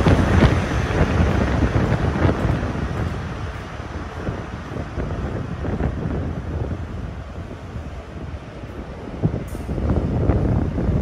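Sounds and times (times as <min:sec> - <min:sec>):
train coaches rumbling on rails: 0:00.0 - 0:11.0
wind buffeting microphone: 0:00.0 - 0:11.0.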